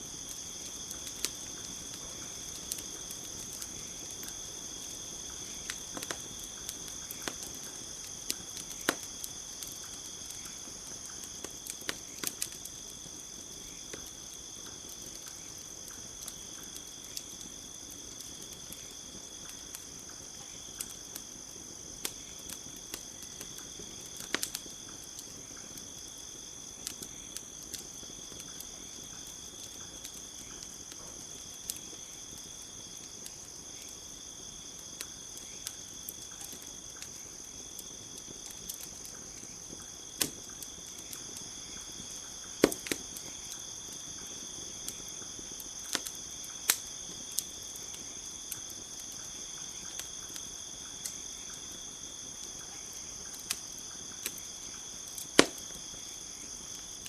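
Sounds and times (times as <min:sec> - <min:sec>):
campfire crackling and popping: 0:00.0 - 0:57.0
crickets chirring: 0:00.0 - 0:57.0.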